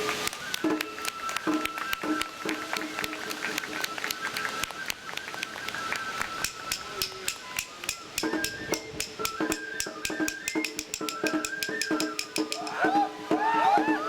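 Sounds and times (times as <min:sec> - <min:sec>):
bamboo flutes playing: 0:00.0 - 0:14.0
fast percussion strikes: 0:00.0 - 0:14.0.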